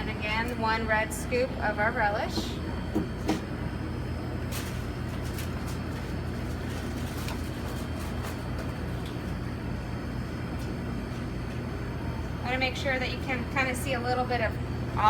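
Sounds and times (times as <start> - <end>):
kitchen equipment humming: 0.0 - 15.0.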